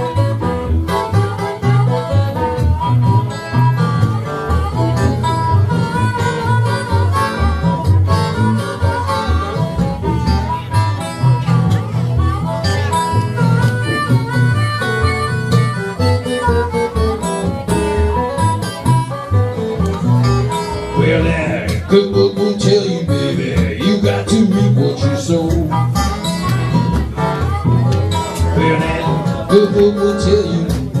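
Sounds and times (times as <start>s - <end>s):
acoustic blues guitar: 0.0s - 31.0s.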